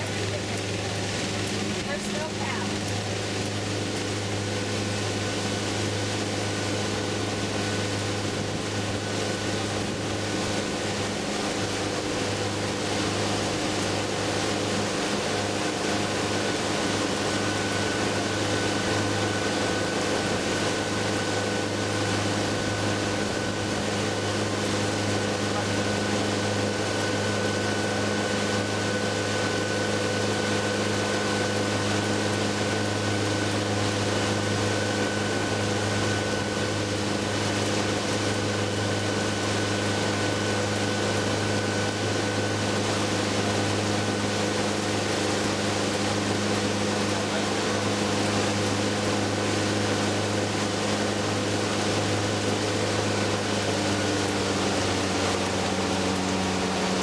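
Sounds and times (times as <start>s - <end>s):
boat motor droning: 0.0s - 57.0s.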